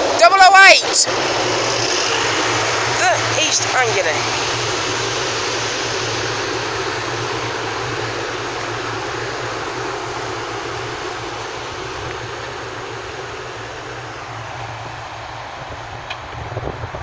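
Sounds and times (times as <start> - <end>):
low hum: 0.0 - 17.0
train rushing rumble: 0.0 - 17.0.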